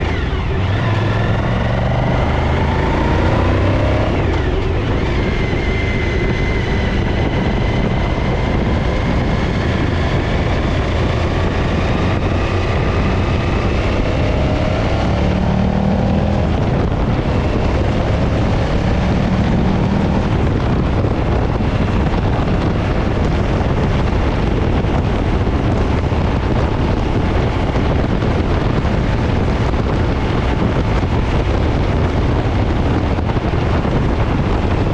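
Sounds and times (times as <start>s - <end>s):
heavy wind noise: 0.0s - 34.9s
vehicle engine running: 0.0s - 34.9s.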